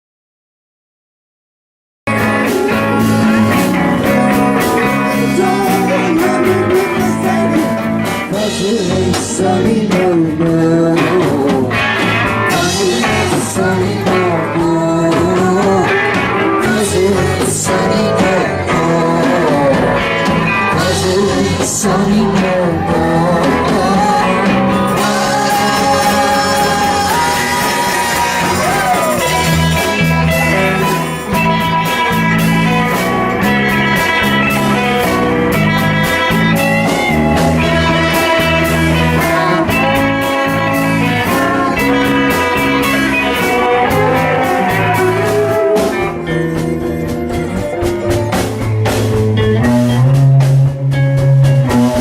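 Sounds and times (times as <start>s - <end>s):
blues-rock band with guitar: 2.1s - 52.0s
person singing: 2.1s - 52.0s.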